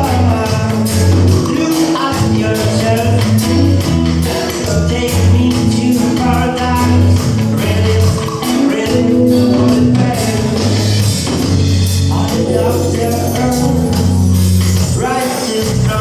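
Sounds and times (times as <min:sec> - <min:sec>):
band music with bass and guitar: 0:00.0 - 0:16.0.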